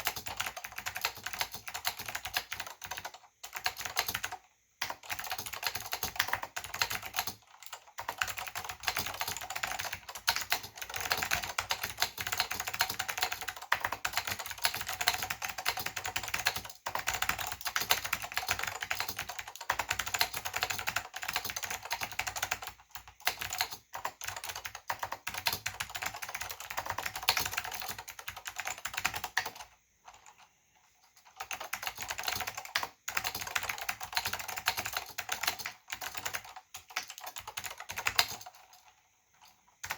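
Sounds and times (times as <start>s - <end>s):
fast typing on mechanical keyboard: 0.0s - 30.5s, 31.1s - 39.9s.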